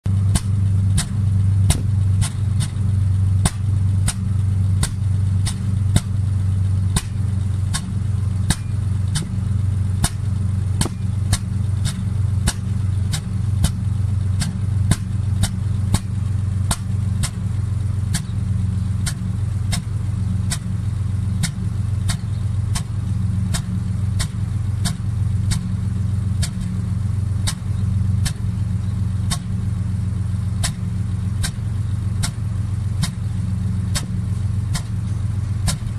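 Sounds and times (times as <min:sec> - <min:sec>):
car engine idling: 0:00.0 - 0:35.9
sharp ticking misfire: 0:00.1 - 0:35.9.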